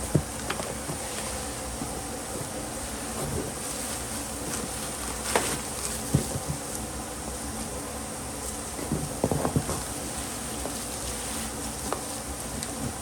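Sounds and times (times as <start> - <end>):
steady buzzing hum: 0.0 - 13.0.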